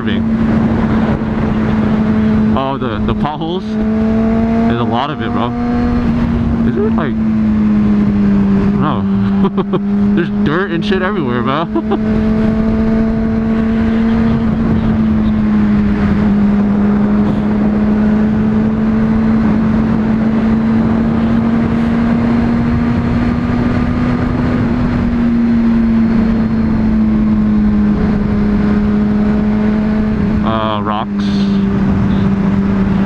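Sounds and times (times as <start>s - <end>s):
wind rush on microphone: 0.0s - 10.2s, 11.7s - 33.0s
motorcycle engine at high revs: 0.0s - 33.0s.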